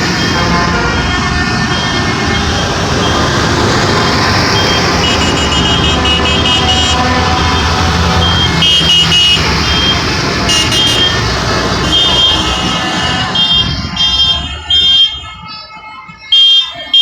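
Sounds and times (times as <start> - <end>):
horns tooting: 0.0 - 17.0
tractor engines rumbling: 0.0 - 17.0.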